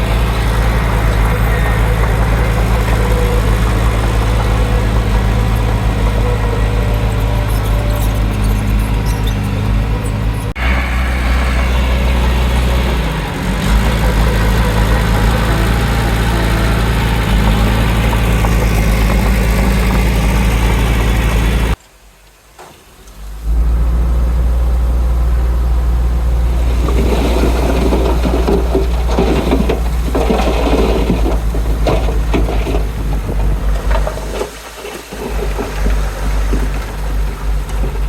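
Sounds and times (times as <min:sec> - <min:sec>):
heavy machinery diesel engine: 0:00.0 - 0:21.8, 0:23.3 - 0:38.0
rattling: 0:00.0 - 0:21.8, 0:25.6 - 0:38.0.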